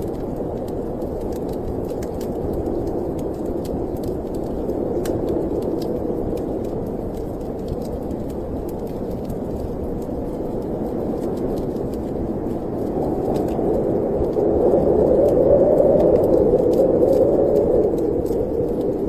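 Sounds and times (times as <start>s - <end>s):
snowstorm wind: 0.0s - 19.0s
wood fire crackling: 0.0s - 19.0s.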